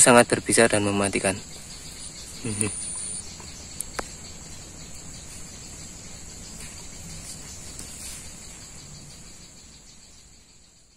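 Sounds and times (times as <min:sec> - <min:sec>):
insect chorus trilling: 0:00.0 - 0:10.9.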